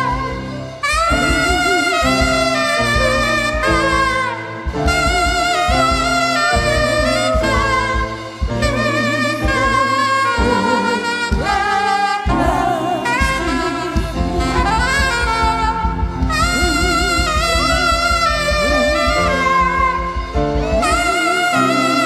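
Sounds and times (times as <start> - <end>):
band music with steady beat: 0.0 - 22.0.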